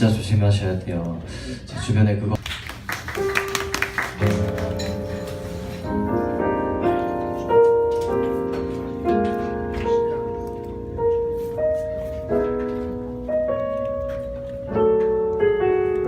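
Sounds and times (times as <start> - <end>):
piano playing slow chords: 3.1 - 16.0.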